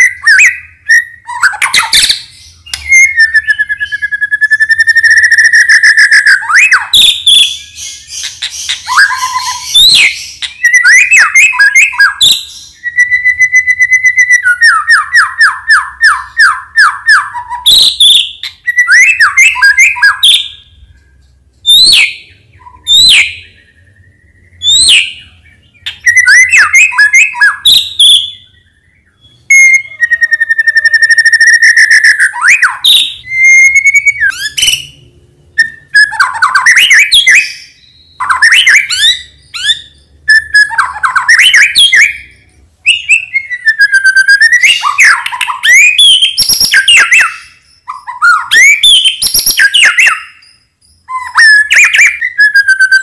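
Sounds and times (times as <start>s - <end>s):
bird song with whistles and trills: 0.0s - 53.0s.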